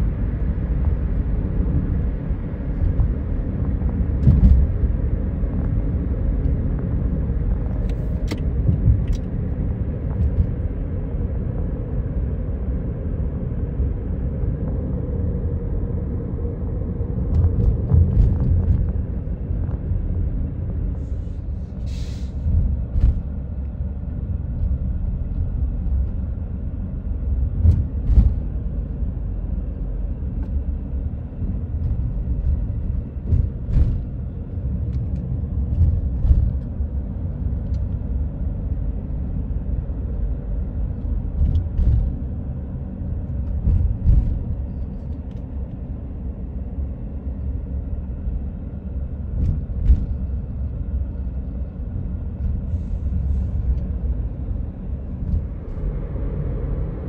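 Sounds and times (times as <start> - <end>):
car road rumble from inside: 0.0 - 57.0.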